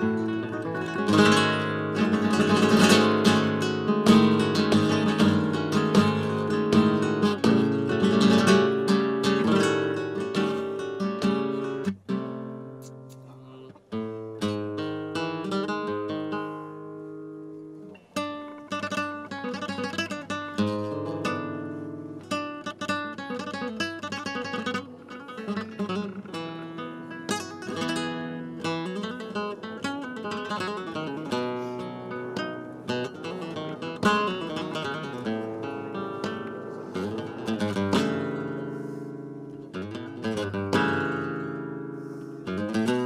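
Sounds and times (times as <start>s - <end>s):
acoustic guitar music: 0.0s - 43.0s.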